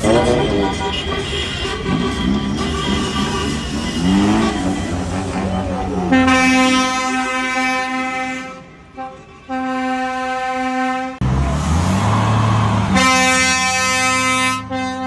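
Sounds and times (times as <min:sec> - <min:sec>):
truck air horn blasts: 0:00.0 - 0:11.2, 0:12.8 - 0:15.0.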